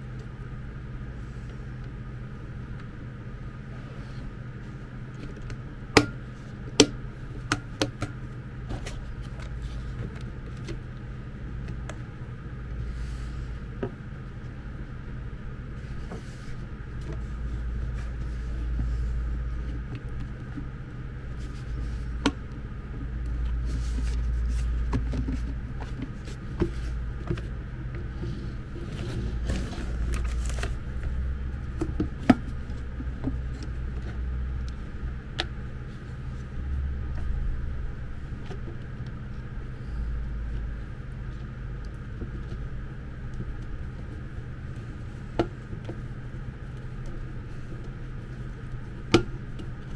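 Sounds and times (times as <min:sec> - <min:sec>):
low handling rumble: 0:00.0 - 0:49.9
steady low hum: 0:00.0 - 0:49.9.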